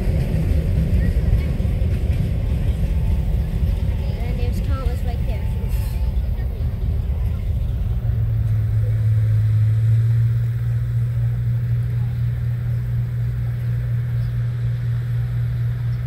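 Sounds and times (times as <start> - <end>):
steady low hum: 0.0 - 16.0
wind rumbling on microphone: 0.0 - 16.0.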